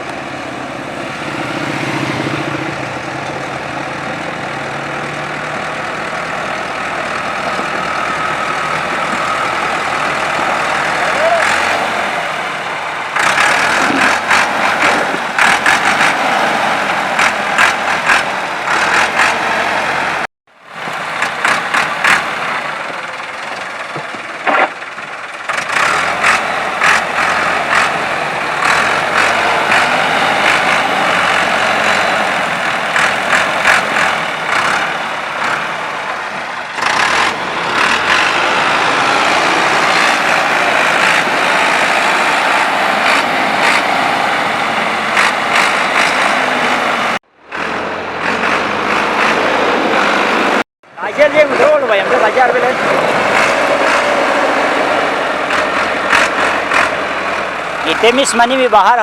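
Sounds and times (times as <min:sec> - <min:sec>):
floodwater rushing: 0:00.0 - 0:23.5, 0:25.5 - 0:47.2, 0:48.2 - 0:59.0.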